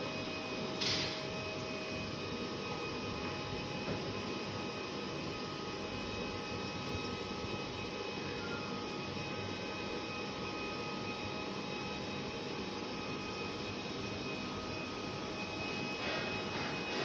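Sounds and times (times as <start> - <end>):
faint high whining tones: 0.0 - 17.0
fan blowing air: 0.0 - 17.0.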